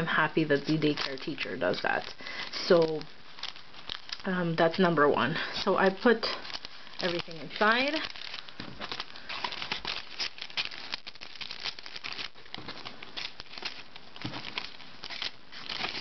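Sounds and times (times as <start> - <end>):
plastic bag crinkling: 0.0 - 16.0
candy rattling in bag: 0.2 - 16.0.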